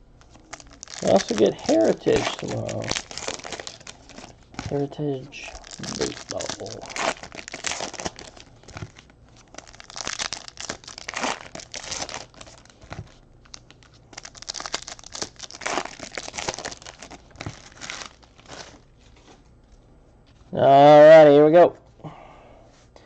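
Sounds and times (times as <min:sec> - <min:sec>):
plastic wrapping crinkling and tearing: 0:00.2 - 0:19.3.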